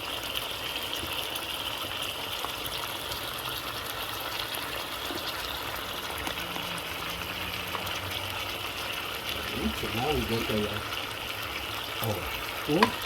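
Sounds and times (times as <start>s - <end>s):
pot simmering with crackles: 0.0s - 13.0s.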